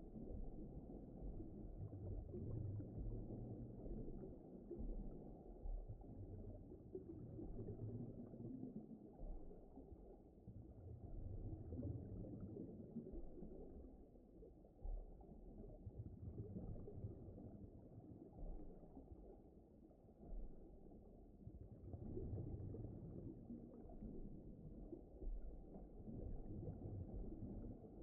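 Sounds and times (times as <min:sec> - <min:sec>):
low underwater rumble: 0:00.0 - 0:28.0.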